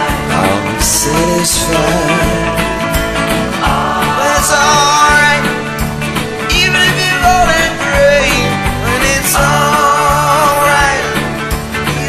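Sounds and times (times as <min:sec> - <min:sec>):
rock song with lead guitar: 0:00.0 - 0:12.0.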